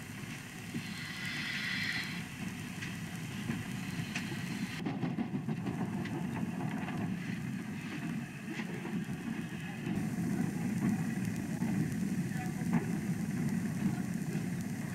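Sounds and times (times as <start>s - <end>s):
steam train rumbling past: 0.0s - 14.9s.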